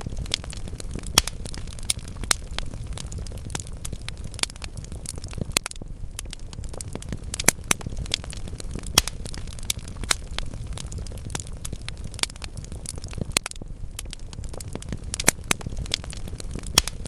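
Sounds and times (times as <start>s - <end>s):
logs crackling in a fireplace: 0.0s - 17.0s
low rumble of fire: 0.0s - 17.0s
sharp fire pops: 0.0s - 17.0s.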